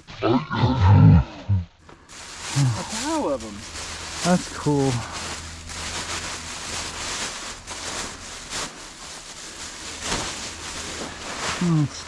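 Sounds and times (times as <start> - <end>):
dry leaves rustling and crunching: 1.9 - 12.0.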